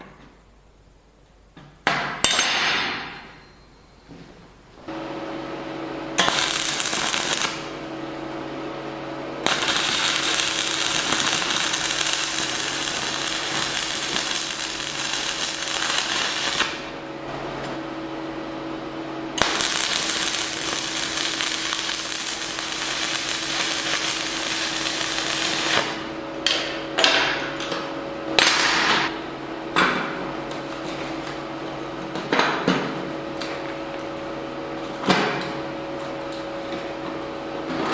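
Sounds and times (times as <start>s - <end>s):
welding machine hum: 4.4s - 37.9s
welding arc crackling: 4.7s - 37.9s.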